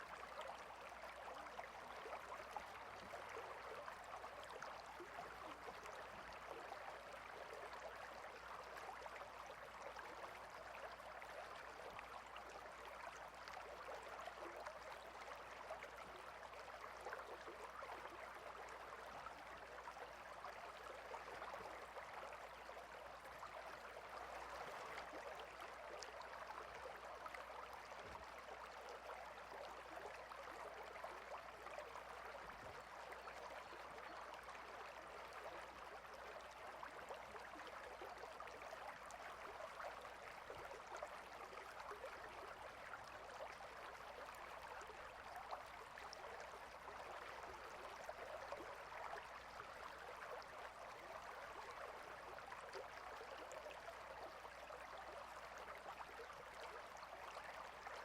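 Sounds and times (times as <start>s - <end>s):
water stream flowing: 0.0s - 58.0s.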